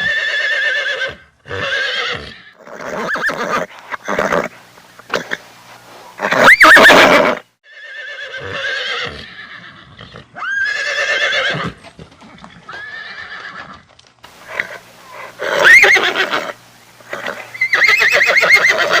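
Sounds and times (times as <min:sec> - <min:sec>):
horse neighing: 0:00.0 - 0:05.4, 0:06.2 - 0:13.8, 0:14.4 - 0:19.0.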